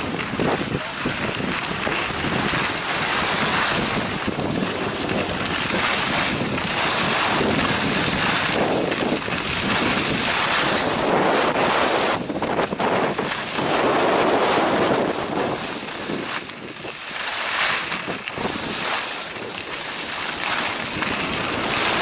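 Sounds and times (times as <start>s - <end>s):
skis sliding on snow: 0.0s - 22.0s
wind on microphone: 0.0s - 22.0s.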